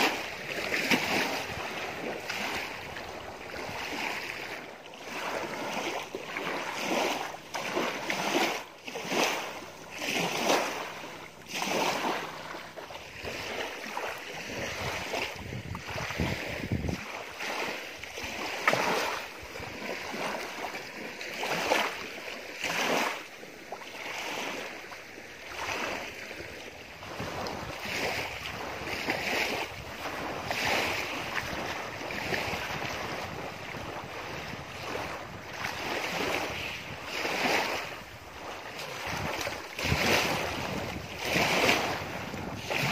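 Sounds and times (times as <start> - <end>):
wind on microphone: 0.0 - 22.0, 25.5 - 42.9
small waves lapping on shore: 0.0 - 42.9.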